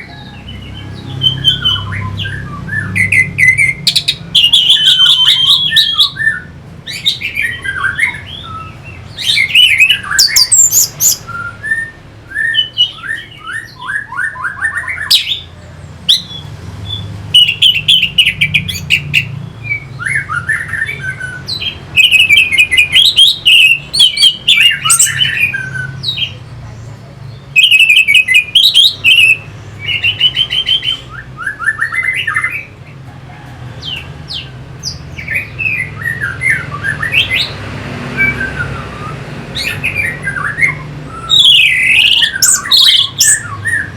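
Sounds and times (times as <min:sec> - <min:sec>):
thrush singing: 0:00.0 - 0:26.4, 0:27.6 - 0:43.9.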